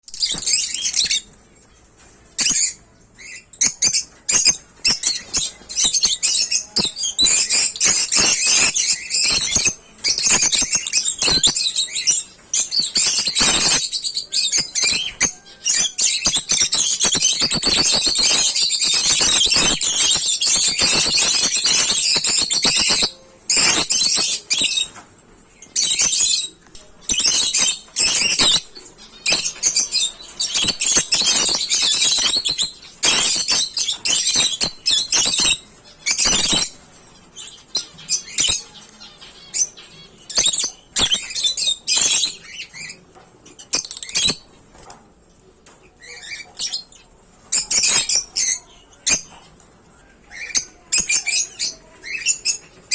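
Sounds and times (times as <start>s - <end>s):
birds chattering and screeching: 0.0s - 52.9s.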